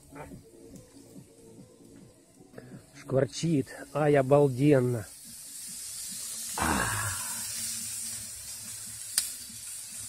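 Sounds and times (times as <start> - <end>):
meat sizzling on grill: 0.0 - 10.0.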